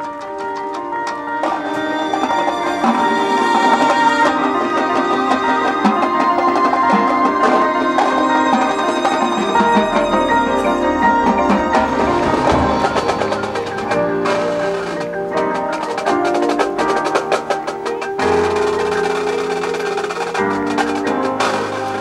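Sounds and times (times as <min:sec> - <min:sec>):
held chords: 0:00.0 - 0:22.0
marching band percussion: 0:00.0 - 0:22.0.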